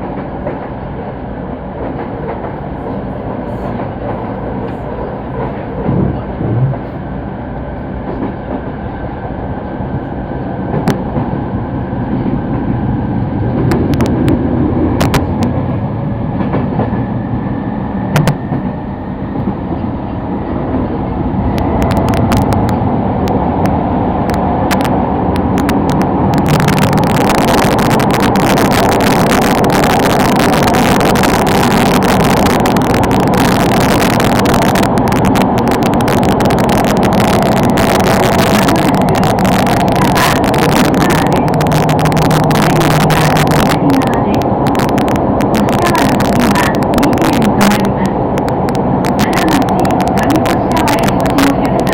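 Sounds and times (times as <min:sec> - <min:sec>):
train rumbling: 0:00.0 - 0:51.9.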